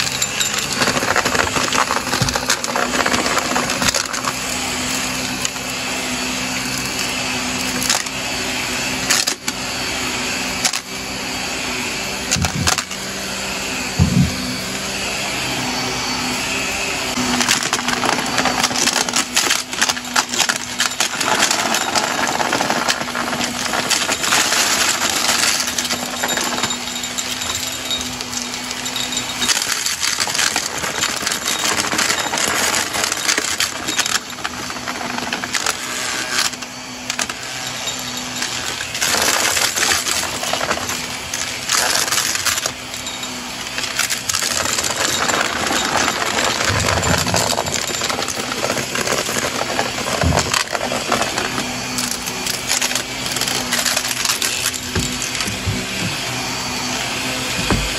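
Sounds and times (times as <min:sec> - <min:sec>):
debris rattling through vacuum nozzle: 0:00.0 - 0:11.6, 0:12.2 - 0:57.9
vacuum cleaner motor hum: 0:00.0 - 0:57.9.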